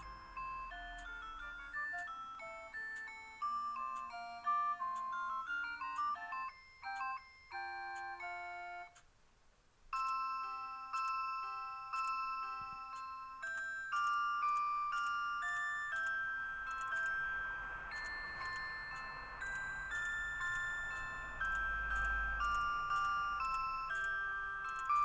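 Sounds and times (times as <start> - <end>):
clock playing electronic melody: 0.0 - 9.0, 9.9 - 25.0.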